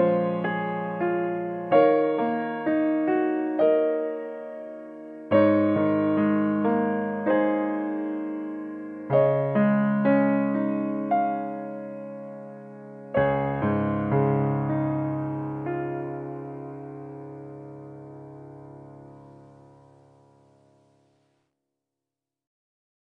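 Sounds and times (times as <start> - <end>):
gentle piano tune: 0.0 - 21.2.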